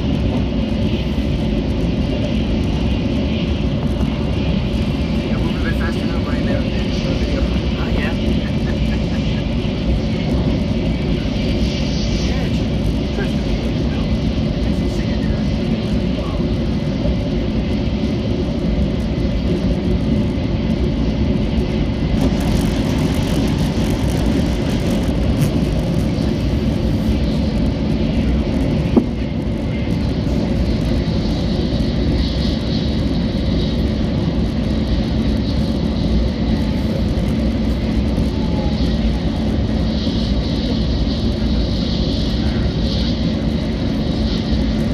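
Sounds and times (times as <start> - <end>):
train running at speed: 0.0 - 44.9.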